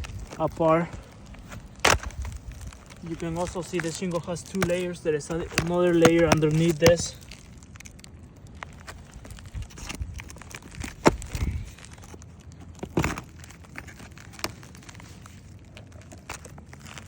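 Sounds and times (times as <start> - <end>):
roof shingles crackling and tearing: 0.0 - 17.0.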